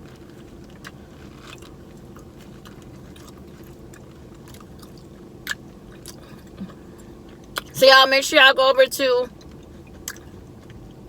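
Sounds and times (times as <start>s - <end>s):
chewing: 0.0s - 7.7s, 9.3s - 11.0s
steady low hum: 1.9s - 11.0s.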